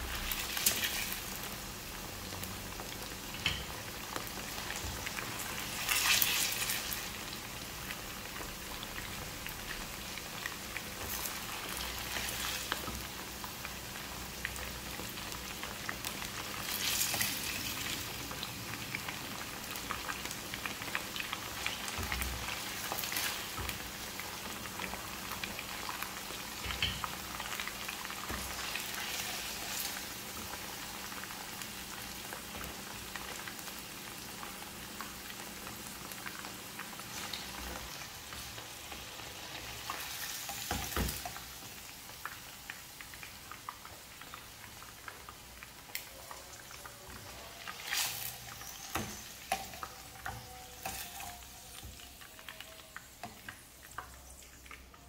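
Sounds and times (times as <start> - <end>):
chicken frying in hot oil: 0.0 - 55.0.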